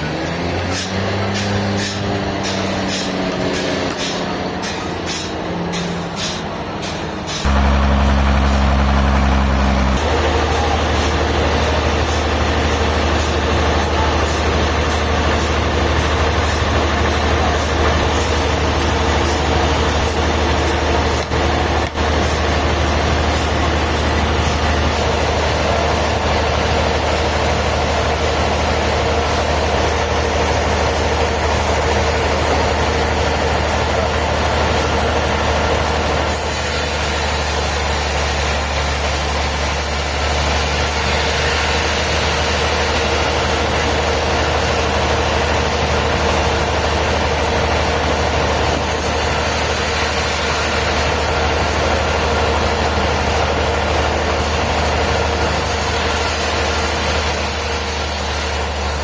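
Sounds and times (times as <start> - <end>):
low engine hum: 0.0 - 57.0
sawmill machinery running: 0.0 - 59.0.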